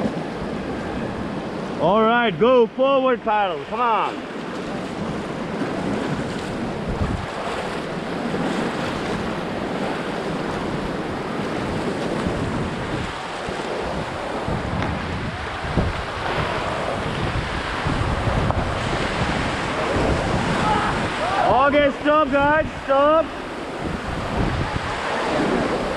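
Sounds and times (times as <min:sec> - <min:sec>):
whitewater rushing: 0:00.0 - 0:25.9
wind buffeting microphone: 0:04.1 - 0:25.9.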